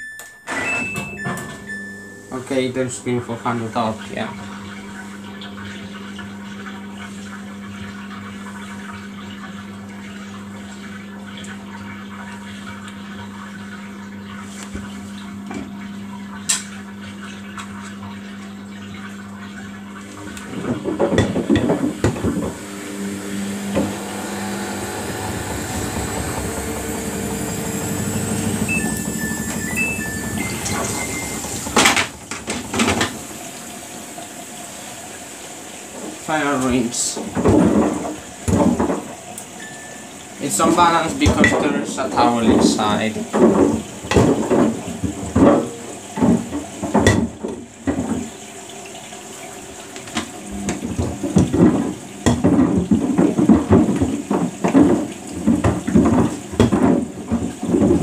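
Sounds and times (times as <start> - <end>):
washing machine humming: 0.0 - 58.0
water sloshing in drum: 0.8 - 58.0.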